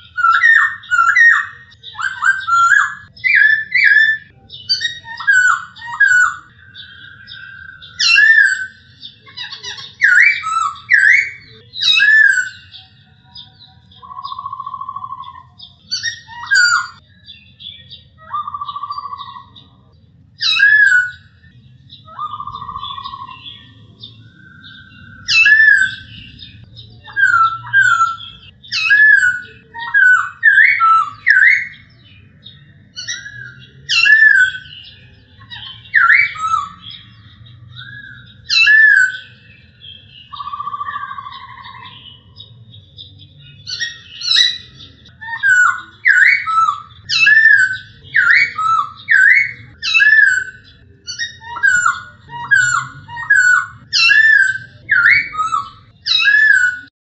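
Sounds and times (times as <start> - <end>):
bird singing whistled notes: 0.0 - 56.9.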